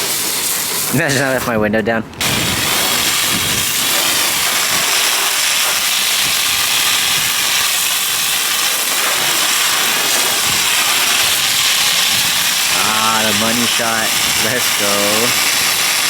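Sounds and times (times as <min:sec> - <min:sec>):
water spraying on car: 0:00.0 - 0:16.0.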